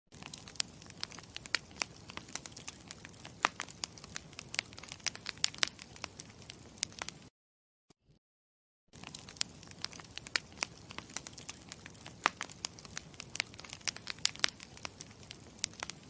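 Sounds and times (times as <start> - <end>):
campfire crackling: 0.2 - 7.3, 9.0 - 16.0.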